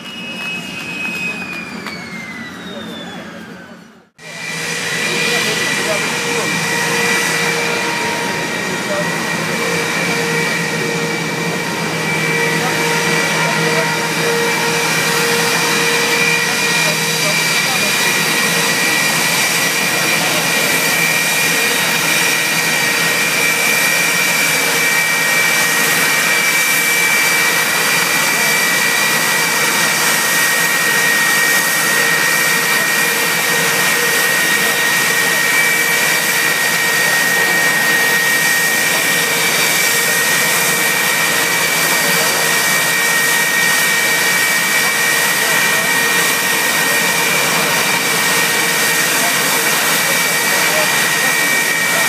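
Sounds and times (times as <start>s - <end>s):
jet turbine whine: 0.0s - 52.0s.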